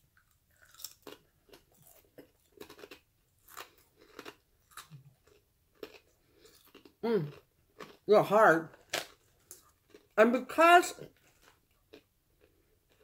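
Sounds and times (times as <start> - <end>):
crunching and chewing cheese crisp: 0.0 - 8.1, 8.7 - 10.2, 11.0 - 13.0.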